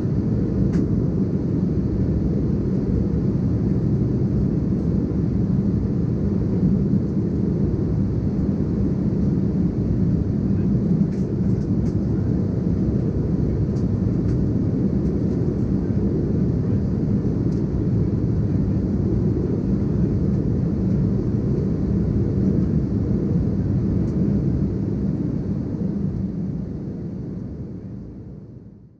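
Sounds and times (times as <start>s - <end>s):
airliner cabin roar: 0.0s - 28.7s.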